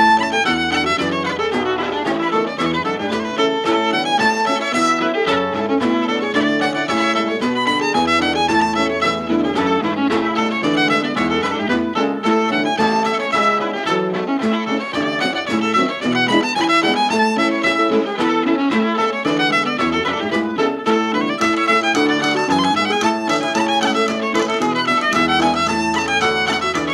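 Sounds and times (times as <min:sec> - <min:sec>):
fiddle playing hornpipes: 0:00.0 - 0:26.9.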